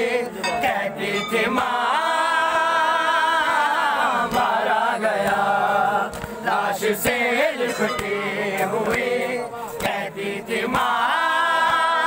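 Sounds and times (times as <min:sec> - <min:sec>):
crowd chanting a lament: 0:00.0 - 0:12.0.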